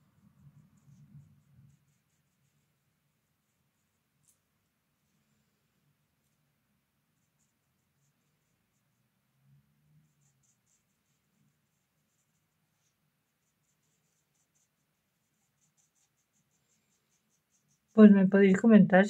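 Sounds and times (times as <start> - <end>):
brush scratching on paper: 0.0 - 5.4, 6.0 - 18.0.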